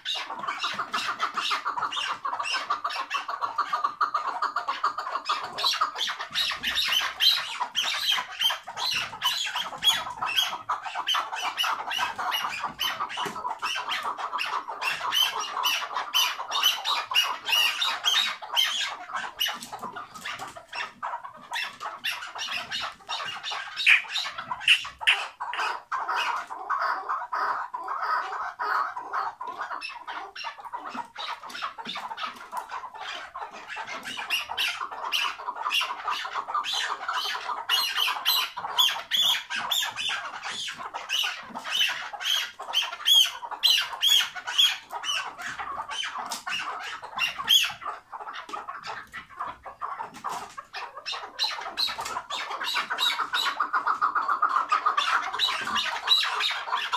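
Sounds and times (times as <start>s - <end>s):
partridges chattering calls: 0.0s - 27.6s, 28.4s - 50.0s, 50.8s - 56.9s.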